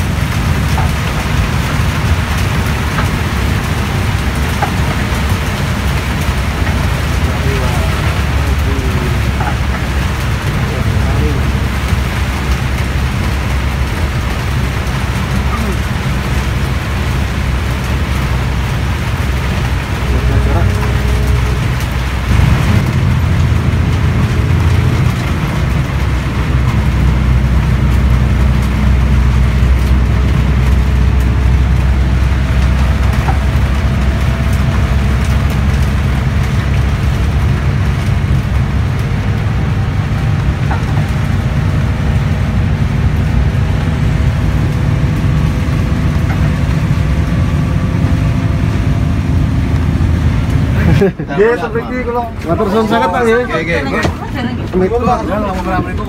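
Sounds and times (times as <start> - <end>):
bus engine drone: 0.0 - 56.0
road and rain hiss: 0.0 - 56.0.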